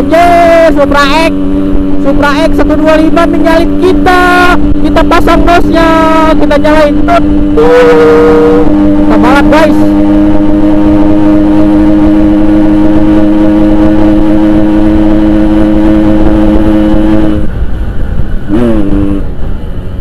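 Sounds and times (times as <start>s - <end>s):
two-stroke motorcycle at high revs: 0.0s - 17.6s, 18.3s - 19.4s.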